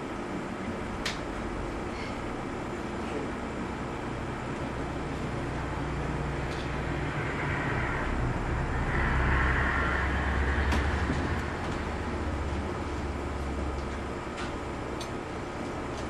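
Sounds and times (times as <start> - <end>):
low rumble with hiss: 0.0 - 16.0.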